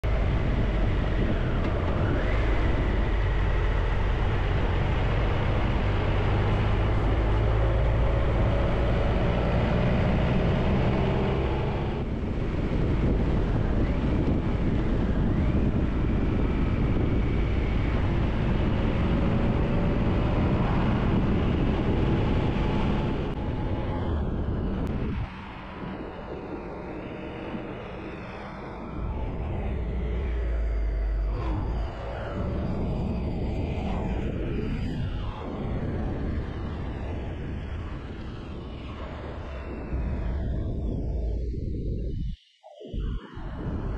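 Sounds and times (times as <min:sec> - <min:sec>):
wind and road noise: 0:00.0 - 0:43.9.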